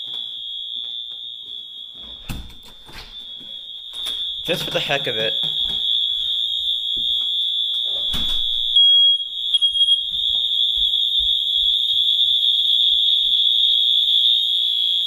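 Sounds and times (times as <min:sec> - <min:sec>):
fire alarm horn tone: 0:00.0 - 0:15.0.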